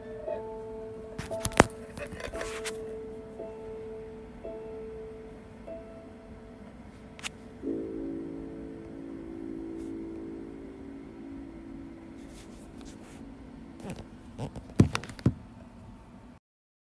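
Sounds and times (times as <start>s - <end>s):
sustained musical chord: 0.0s - 14.3s.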